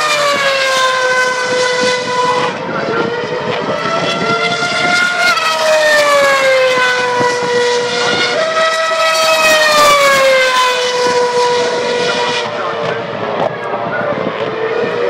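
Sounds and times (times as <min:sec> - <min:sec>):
racing cars passing at high revs: 0:00.0 - 0:15.0.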